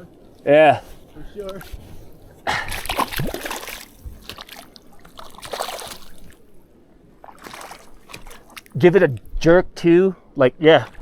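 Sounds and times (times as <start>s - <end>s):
water splashing and sloshing: 0.0s - 9.5s, 10.2s - 11.0s.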